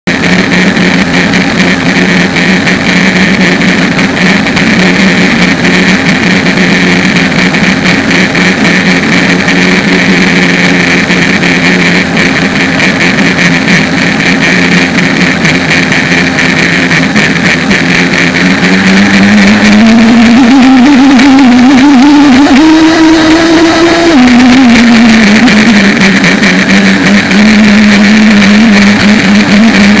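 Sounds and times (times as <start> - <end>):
electric motor hum and whine: 0.1 - 30.0
water noise: 0.1 - 30.0.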